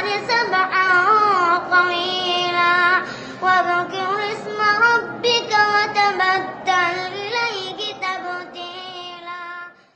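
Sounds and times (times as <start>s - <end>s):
child chanting melodically: 0.0s - 9.8s.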